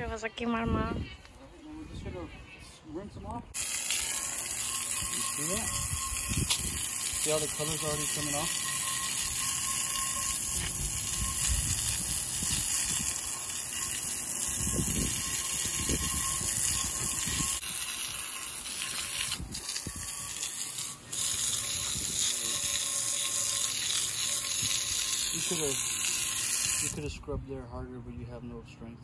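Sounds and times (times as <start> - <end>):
water jet splashing on metal: 3.6 - 27.0
hose spray hissing: 3.6 - 27.1.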